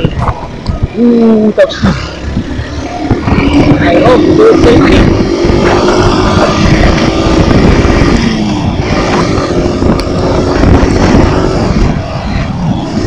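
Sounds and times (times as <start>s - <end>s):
motorcycle engine running hard: 0.0s - 13.0s
wind rumble on microphone: 0.0s - 13.0s.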